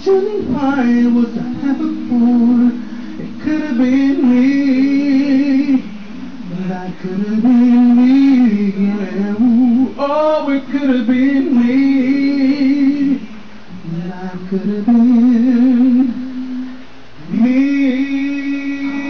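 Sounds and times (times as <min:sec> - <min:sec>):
man singing gospel a cappella: 0:00.0 - 0:19.0.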